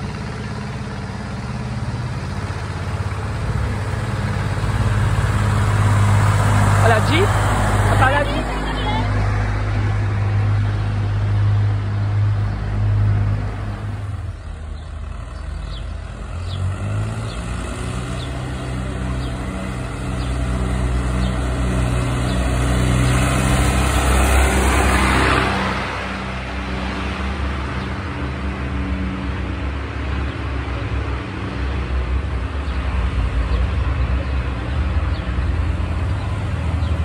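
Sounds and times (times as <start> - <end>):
car passing: 0.0 - 37.0
tractor engine running: 0.0 - 37.0.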